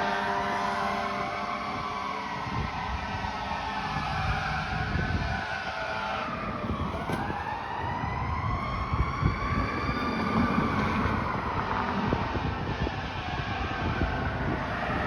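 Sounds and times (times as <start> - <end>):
fire engine siren wailing: 0.0 - 15.0
truck engine rumble: 0.0 - 15.0.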